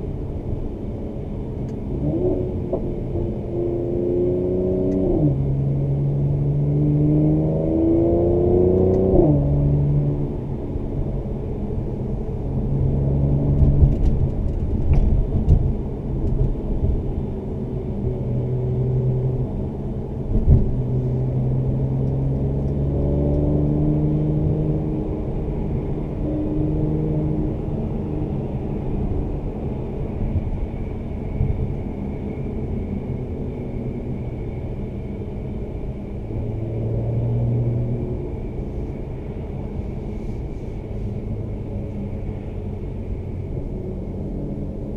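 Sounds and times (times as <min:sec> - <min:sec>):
car engine accelerating through shifts: 0:01.6 - 0:44.9.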